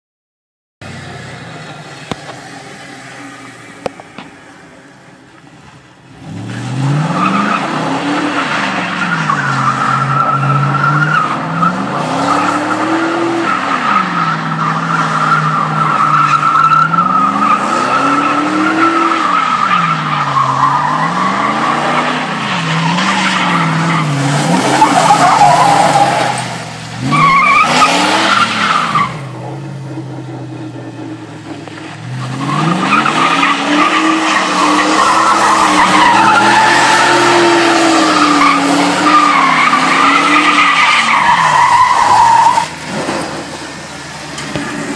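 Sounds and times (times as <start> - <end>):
truck engine revving: 6.1 - 44.9
tyres skidding in dust: 6.1 - 44.9.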